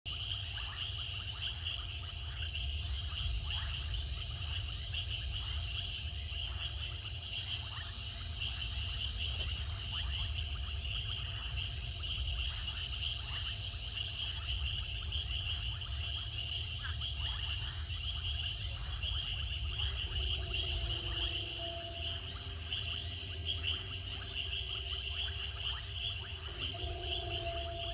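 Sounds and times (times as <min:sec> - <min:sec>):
crickets trilling: 0:00.1 - 0:27.9
pulsed insect chirping: 0:00.1 - 0:27.9
low steady rumble: 0:01.3 - 0:27.9.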